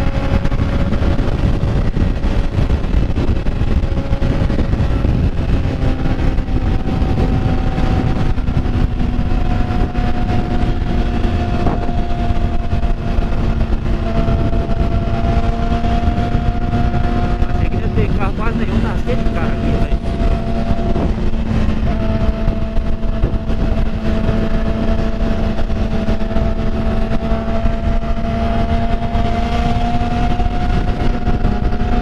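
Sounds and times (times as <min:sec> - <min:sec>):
motorcycle engine hum: 0:00.0 - 0:32.0
wind rushing over microphone: 0:00.0 - 0:32.0.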